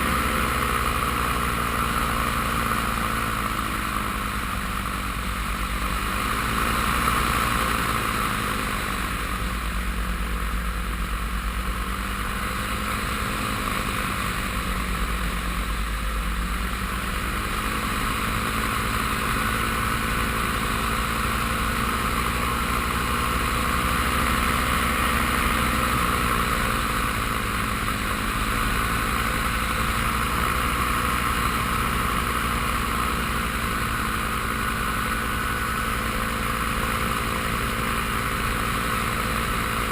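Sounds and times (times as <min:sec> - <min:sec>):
paramotor engine droning: 0:00.0 - 0:39.9.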